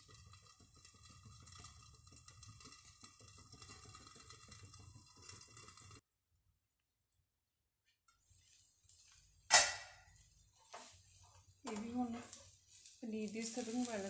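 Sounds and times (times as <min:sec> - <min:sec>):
batter sizzling and crackling: 0:00.0 - 0:06.0, 0:08.1 - 0:14.0.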